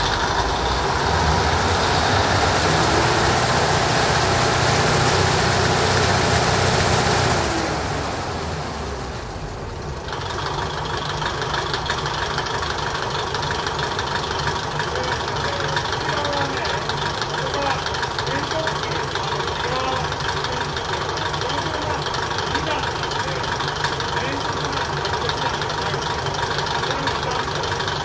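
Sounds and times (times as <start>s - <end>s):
diesel railcar engine rumbling: 0.0s - 28.0s.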